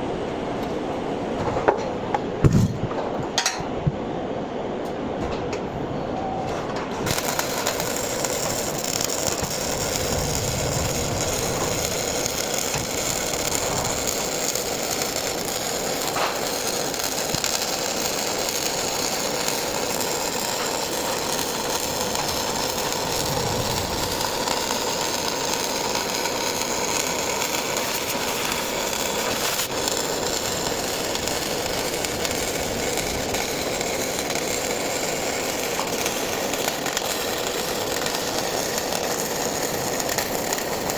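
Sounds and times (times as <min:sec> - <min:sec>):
welding arc crackling: 0:06.9 - 0:40.9.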